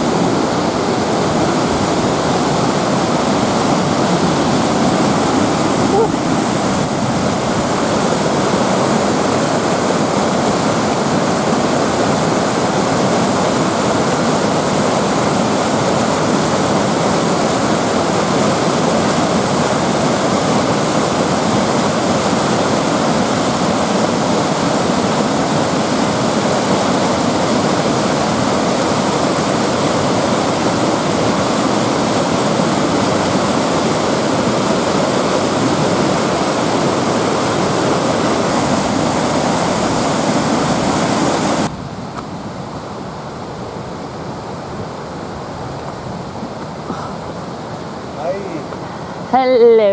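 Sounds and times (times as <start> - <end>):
river water rushing over rapids: 0.0 - 49.9.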